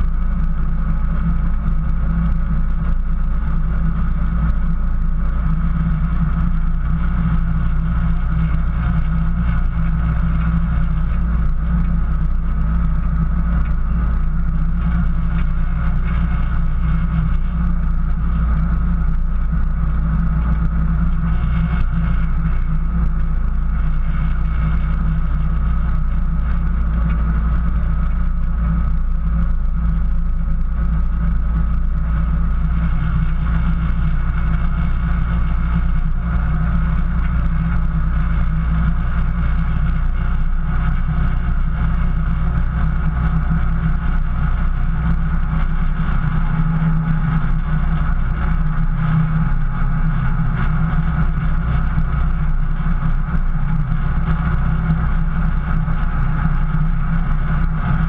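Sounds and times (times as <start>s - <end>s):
car engine rumbling: 0.0s - 58.0s
faint high whine: 0.0s - 58.0s.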